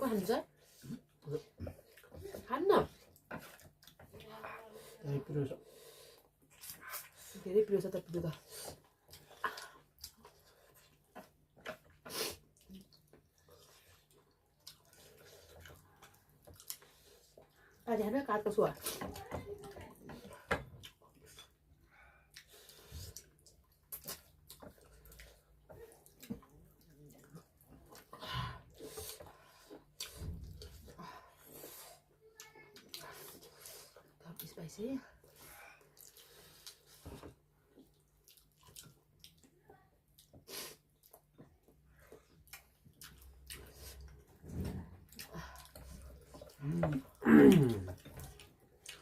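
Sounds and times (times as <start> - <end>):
person chewing food: 3.0 - 4.7, 8.4 - 17.8, 18.8 - 34.5, 35.2 - 49.0.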